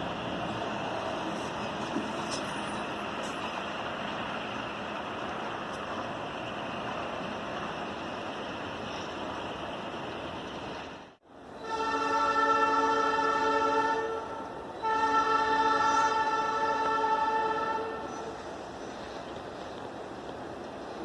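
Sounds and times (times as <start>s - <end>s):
freight train rumbling by: 0.0s - 21.0s.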